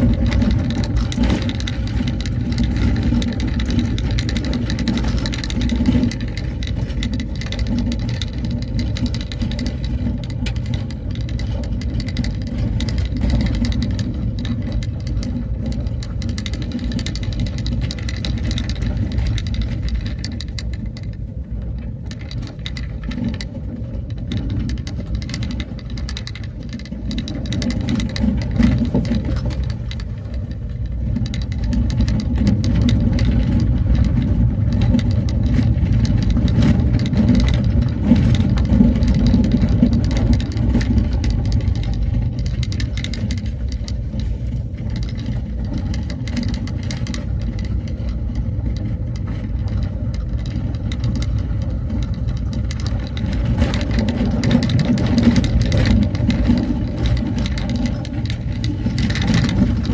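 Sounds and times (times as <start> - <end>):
light rattling and crackling: 0.0 - 59.9
vehicle engine and road rumble: 0.0 - 59.9.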